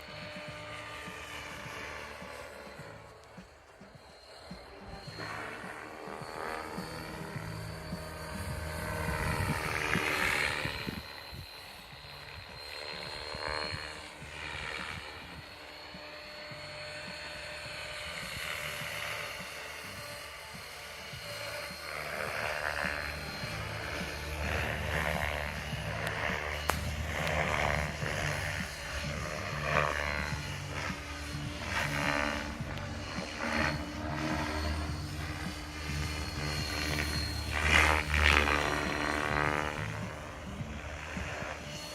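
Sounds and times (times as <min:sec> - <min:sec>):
high-pitched motor whine: 0:00.0 - 0:41.9
rc helicopter rotor whooshing: 0:00.0 - 0:41.9.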